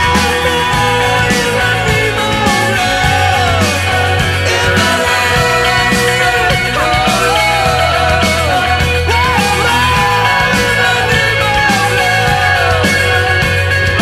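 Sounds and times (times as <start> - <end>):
person singing: 0.0 - 14.0
rock music: 0.0 - 14.0.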